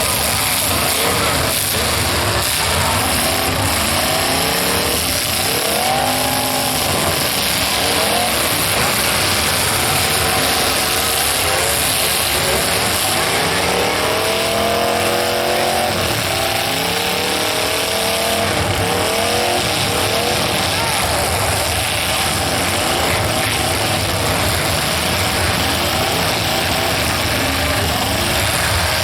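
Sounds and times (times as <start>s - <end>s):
car engines revving: 0.0s - 29.0s
constant din: 0.0s - 29.0s.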